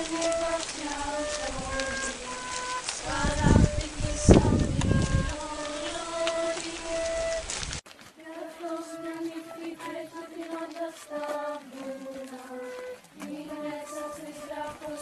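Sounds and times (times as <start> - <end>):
children singing in unison: 0.0 - 7.5, 8.2 - 15.0.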